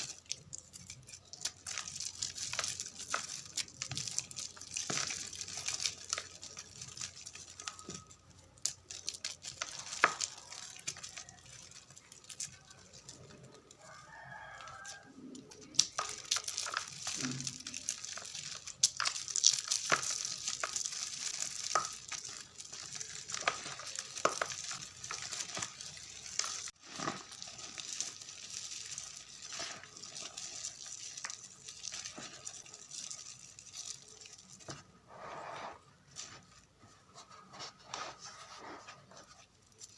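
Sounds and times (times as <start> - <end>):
chalk crumbling and crackling: 0.0 - 39.9.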